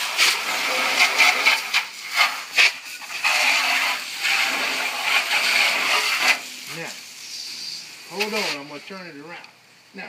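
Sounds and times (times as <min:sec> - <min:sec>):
hose spraying water: 0:00.0 - 0:09.4.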